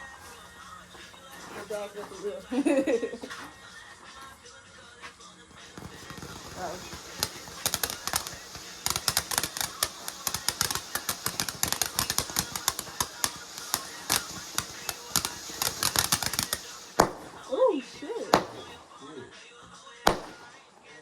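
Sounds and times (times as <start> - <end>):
firecrackers going off: 0.0 - 21.0.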